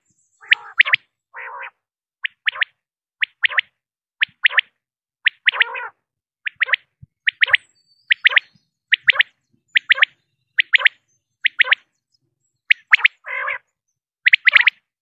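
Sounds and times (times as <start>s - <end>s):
quail calling: 0.4s - 4.7s, 5.3s - 11.9s, 12.6s - 13.7s, 14.3s - 14.9s.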